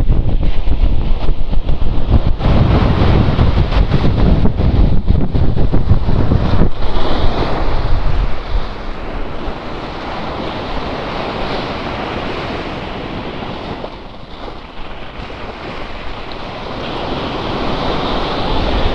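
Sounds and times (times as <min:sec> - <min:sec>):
waves washing onto beach: 0:00.0 - 0:18.9
wind buffeting microphone: 0:00.0 - 0:18.9.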